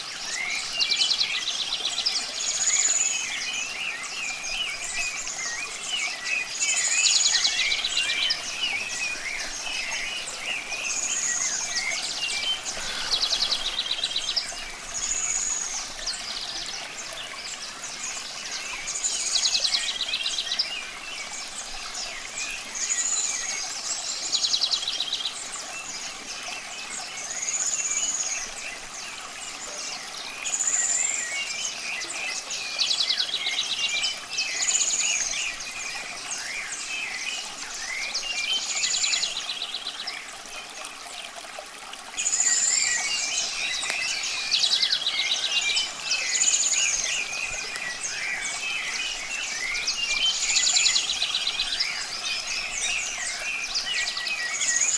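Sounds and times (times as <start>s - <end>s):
running water hiss: 0.0s - 54.9s
songbirds singing: 0.0s - 54.9s.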